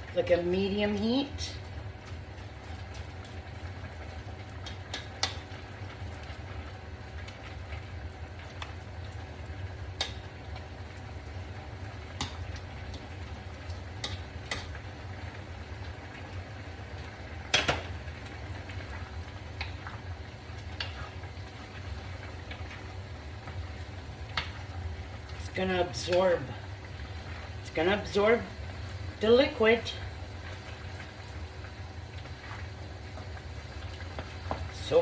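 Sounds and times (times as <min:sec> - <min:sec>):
broth bubbling in a pan: 0:00.0 - 0:35.0.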